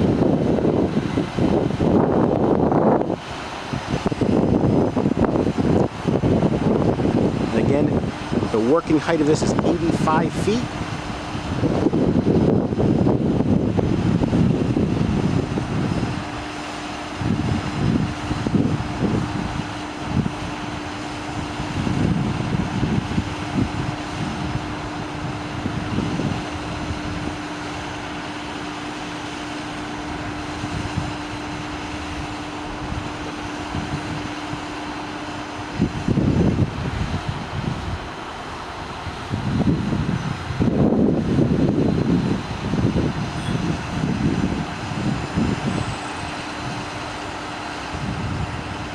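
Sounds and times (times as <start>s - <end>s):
truck diesel engine droning: 0.0s - 48.9s
wind rumble on microphone: 0.0s - 48.9s.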